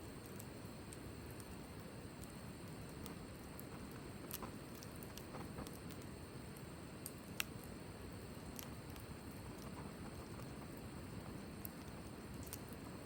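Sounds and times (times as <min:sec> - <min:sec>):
campfire crackling: 0:00.1 - 0:13.0.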